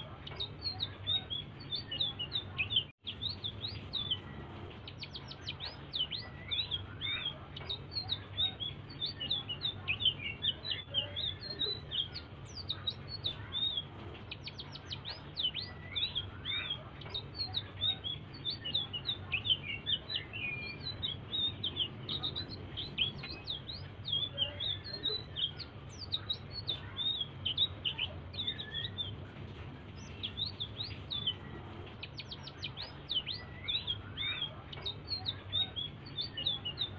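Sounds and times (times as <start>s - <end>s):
songbird chirping and whistling: 0.0s - 36.9s
steady low hum: 0.0s - 36.9s.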